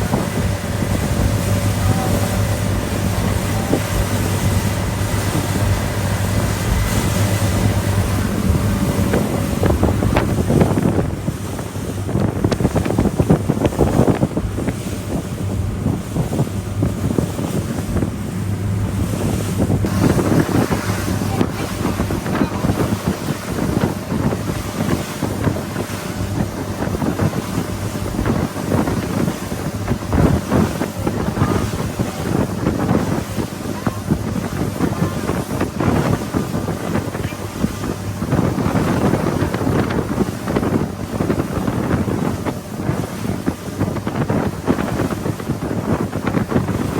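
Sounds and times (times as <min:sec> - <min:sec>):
boat engine hum: 0:00.0 - 0:46.9
water rushing past hull: 0:00.0 - 0:46.9
wind buffeting microphone: 0:00.0 - 0:46.9.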